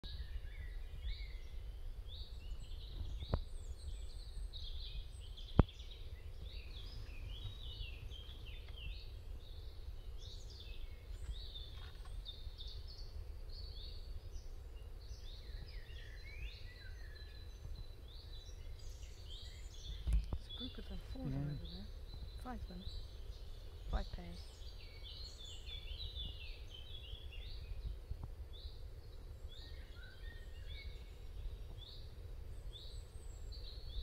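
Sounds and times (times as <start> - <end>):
birds chirping: 0.0 - 34.0
low steady rumble: 0.0 - 34.0.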